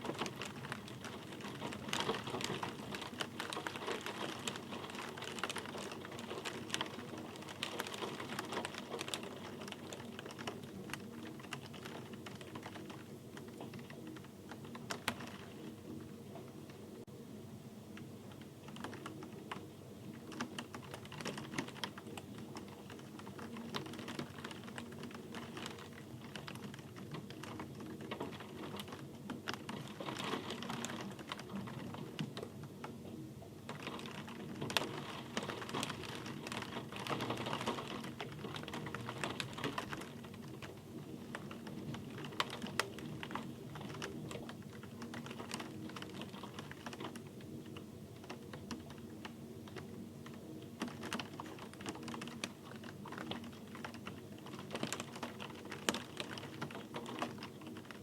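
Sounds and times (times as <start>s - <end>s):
rain drops clicking: 0.0s - 17.1s, 17.9s - 58.0s
rain patter: 0.0s - 58.0s.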